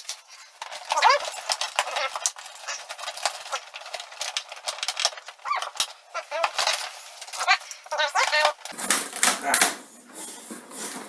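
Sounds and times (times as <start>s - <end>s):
plastic and cardboard packaging rustling: 0.0s - 11.0s.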